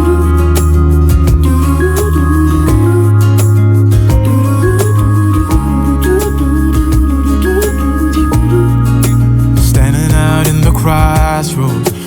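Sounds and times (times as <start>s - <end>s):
instrumental pop music: 0.0s - 12.0s.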